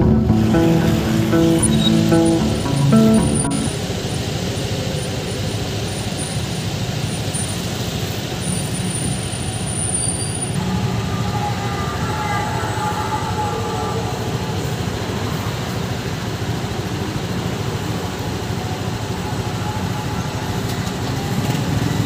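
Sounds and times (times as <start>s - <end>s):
traffic engines rumbling: 0.0s - 22.0s.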